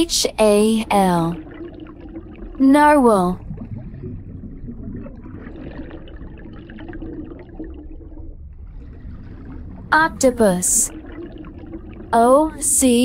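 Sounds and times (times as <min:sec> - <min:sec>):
underwater water noise: 0:00.0 - 0:13.0.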